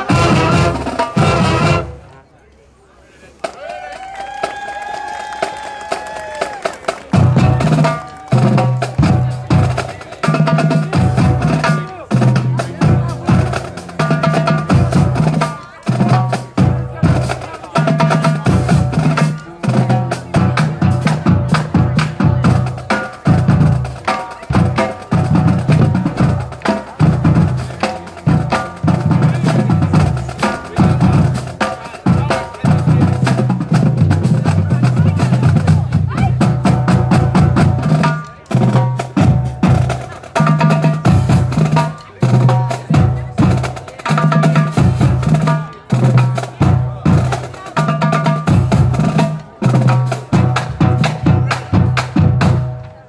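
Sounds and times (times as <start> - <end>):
steady drum beat: 0.0 - 2.1, 4.2 - 53.0
marching band playing: 0.0 - 2.3, 5.4 - 53.0.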